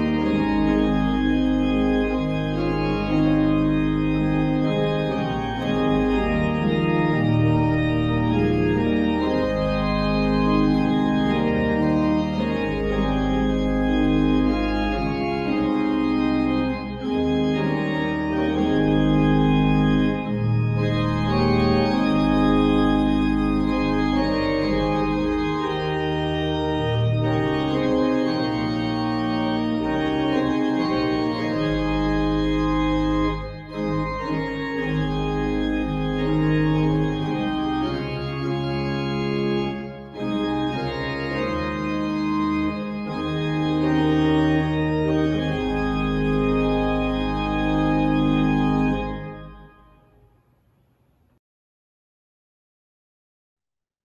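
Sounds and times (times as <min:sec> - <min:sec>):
church organ chords: 0:00.0 - 0:50.4.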